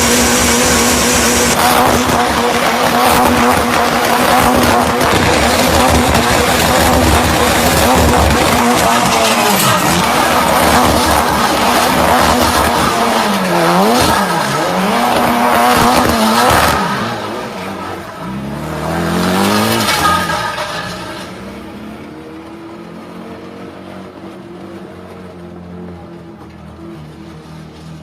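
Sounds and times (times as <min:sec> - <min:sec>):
tyres squealing and skidding: 0:00.0 - 0:24.8
car engine revving: 0:00.0 - 0:28.0.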